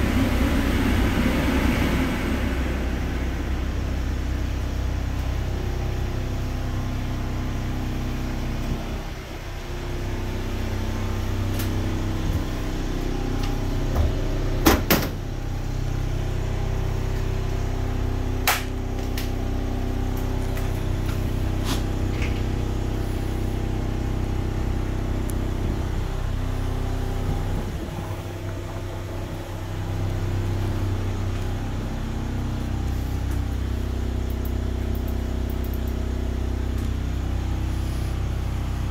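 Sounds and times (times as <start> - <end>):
generator engine humming: 0.0 - 38.9.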